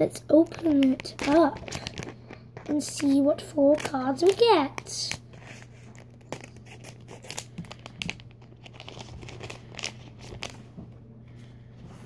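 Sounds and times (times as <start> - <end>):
plastic wrapper crinkling and tearing: 0.4 - 10.6.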